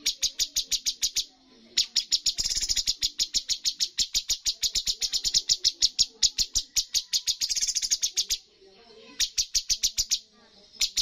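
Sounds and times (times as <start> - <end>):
bird singing rapid chip notes: 0.0 - 11.0.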